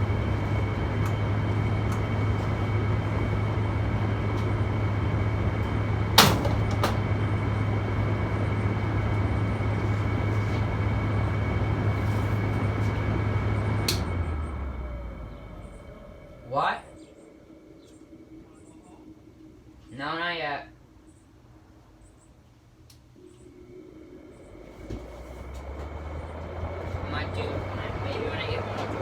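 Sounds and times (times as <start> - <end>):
fan motor humming and whining: 0.0 - 29.0.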